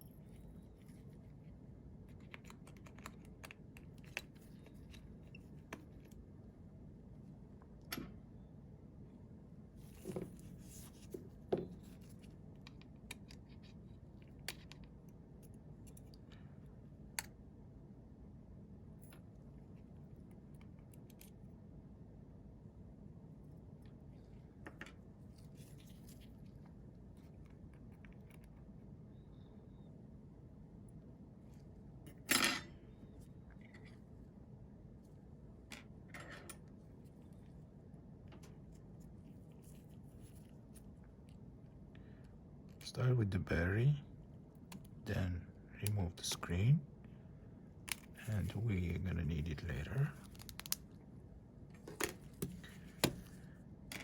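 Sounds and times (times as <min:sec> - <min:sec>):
faint steady low hum: 0:00.0 - 0:54.0.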